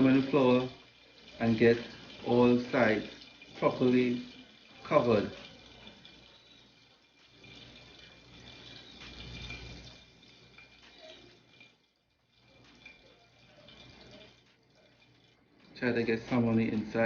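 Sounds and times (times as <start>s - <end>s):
butter and oil sizzling: 0.0s - 17.0s.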